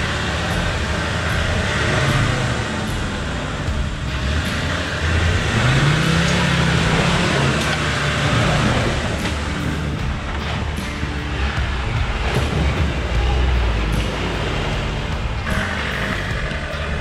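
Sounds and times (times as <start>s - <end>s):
truck engine under load: 0.0s - 17.0s
tyres churning through mud: 0.0s - 17.0s.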